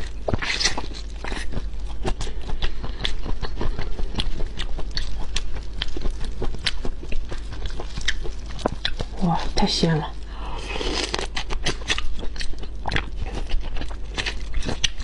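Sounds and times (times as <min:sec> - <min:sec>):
eating and chewing prawns: 0:00.0 - 0:15.0.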